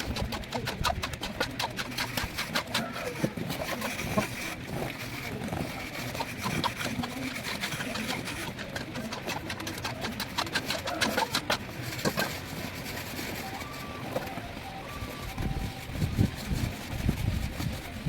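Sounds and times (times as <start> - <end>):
trowel scraping wet plaster: 0.0 - 18.0.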